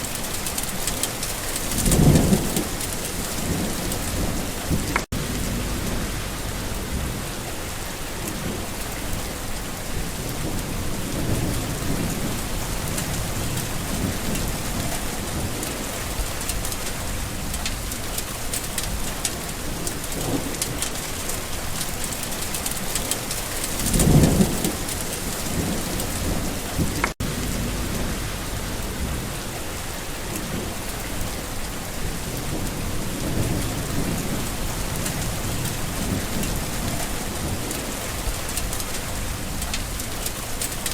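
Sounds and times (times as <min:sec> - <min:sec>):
steady rain falling: 0:00.0 - 0:40.9
thunder rumbling: 0:00.0 - 0:40.9.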